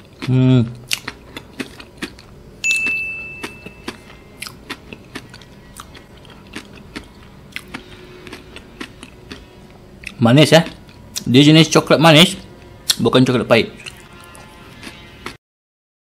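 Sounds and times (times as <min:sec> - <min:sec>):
crunchy chewing: 0:00.0 - 0:11.3, 0:13.8 - 0:15.4.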